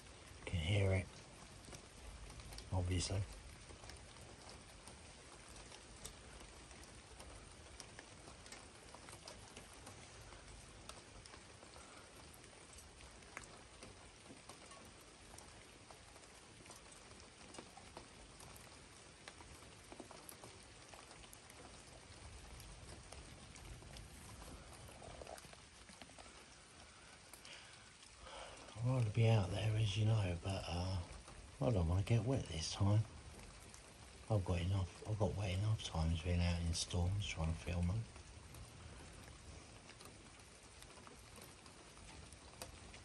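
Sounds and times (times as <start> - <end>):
rain hiss: 0.0 - 43.0
raindrops ticking: 0.0 - 43.0.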